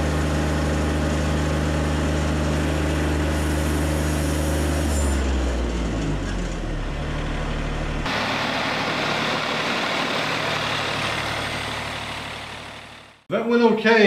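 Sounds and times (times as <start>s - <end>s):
sawmill engine hum: 0.0s - 13.3s.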